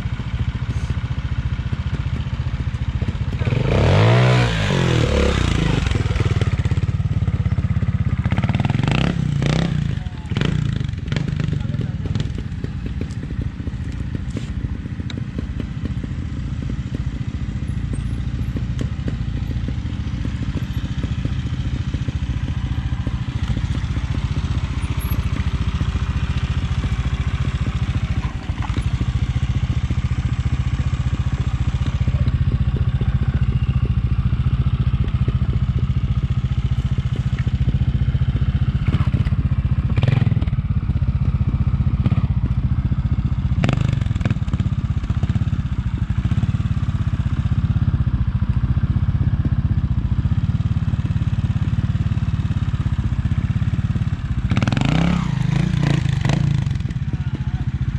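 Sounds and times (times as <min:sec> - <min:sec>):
motorcycle engine at low revs: 0:00.0 - 0:57.9.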